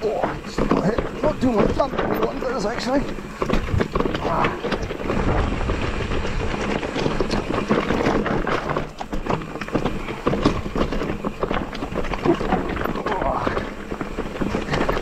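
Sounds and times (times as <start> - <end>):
bike rattling over rocks: 0.0 - 15.0.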